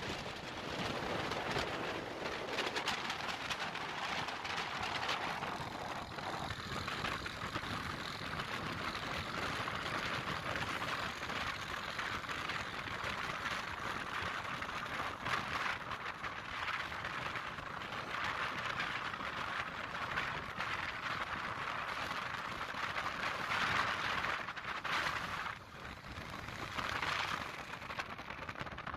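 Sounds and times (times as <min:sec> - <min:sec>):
wind and road noise: 0:00.0 - 0:28.9.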